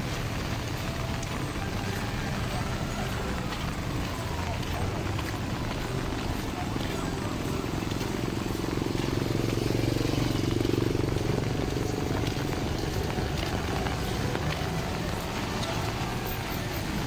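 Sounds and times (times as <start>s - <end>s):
street noise: 0.0s - 17.0s
vehicle engine passing: 2.6s - 17.0s.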